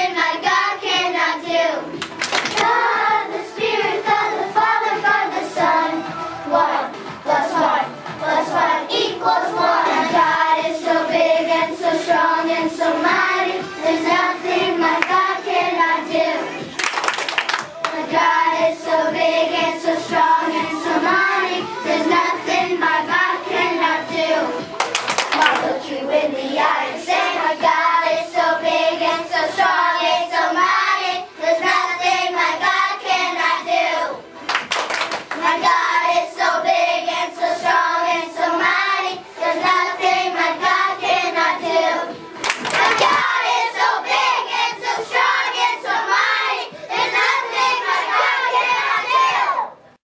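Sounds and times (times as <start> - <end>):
children singing: 0.0 - 1.9, 2.5 - 16.8, 17.8 - 24.7, 25.3 - 34.3, 35.3 - 49.8.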